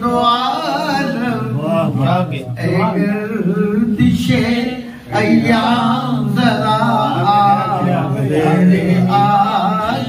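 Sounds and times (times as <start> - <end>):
man singing devotional poem: 0.0 - 10.0.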